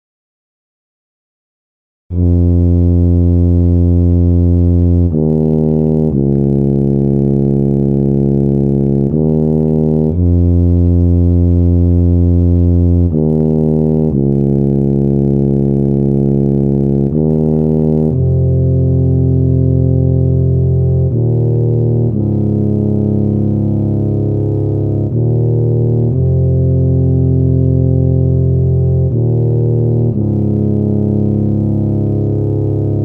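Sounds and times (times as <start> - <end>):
sampled low brass fanfare: 2.1 - 33.0.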